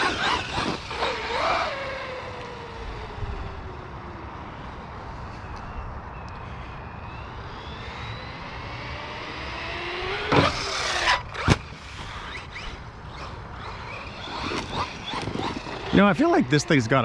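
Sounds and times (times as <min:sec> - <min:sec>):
tyre and chassis noise: 0:00.0 - 0:04.1, 0:07.3 - 0:17.0
electric motor whining: 0:00.0 - 0:04.2, 0:07.0 - 0:17.0.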